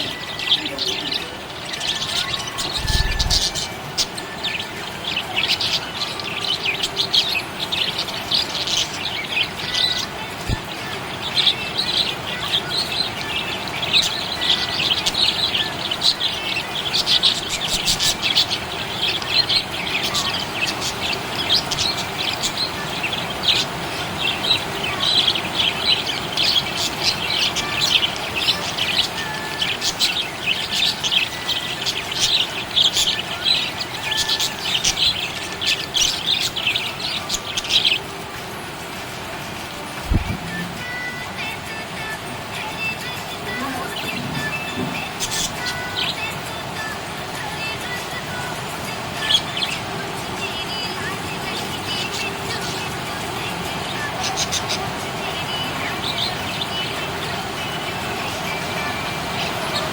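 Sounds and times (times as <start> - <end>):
budgerigars chirping: 0.0 - 38.3, 42.6 - 59.9.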